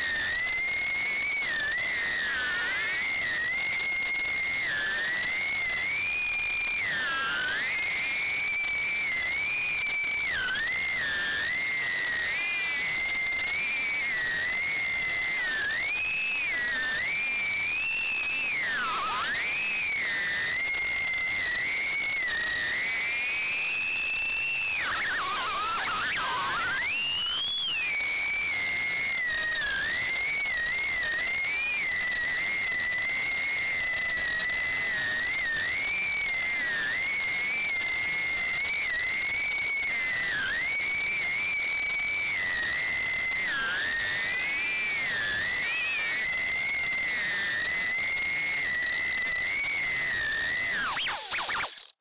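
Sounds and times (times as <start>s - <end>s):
drone motors whining: 0.0s - 52.0s.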